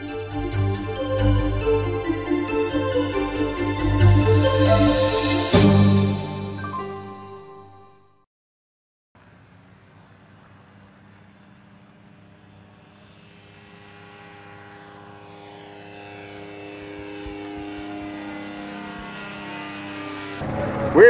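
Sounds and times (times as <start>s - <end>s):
ultralight aircraft engine drone: 0.0s - 6.4s, 9.2s - 21.0s.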